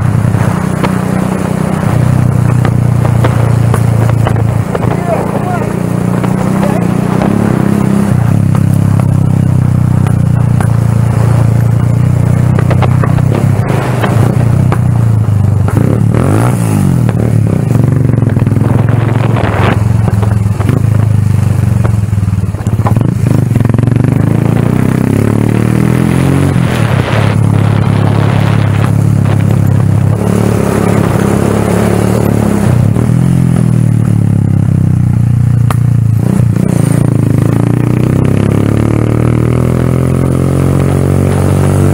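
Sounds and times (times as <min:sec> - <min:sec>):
motorcycle clattering on rough road: 0:00.0 - 0:25.5, 0:26.7 - 0:41.9
motorcycle engine revving: 0:00.0 - 0:41.9.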